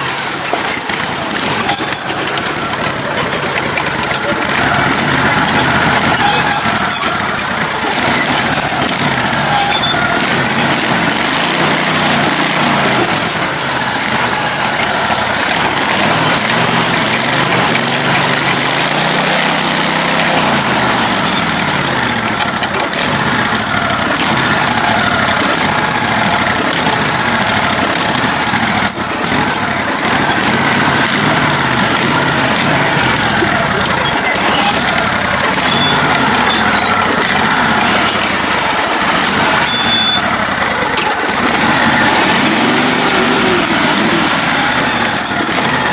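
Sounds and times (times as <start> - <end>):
riding mower engine running: 0.0 - 45.9.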